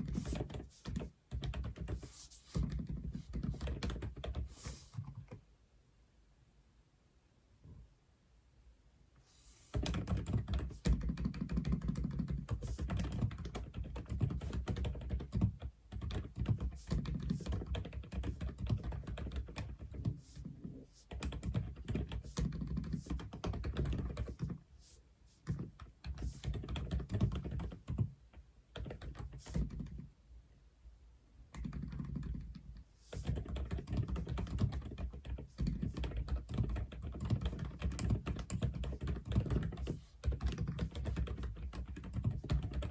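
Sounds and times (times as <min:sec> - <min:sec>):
mechanical keyboard typing: 0:00.0 - 0:05.4, 0:09.7 - 0:24.6, 0:25.4 - 0:28.1, 0:28.8 - 0:30.0, 0:31.5 - 0:42.9.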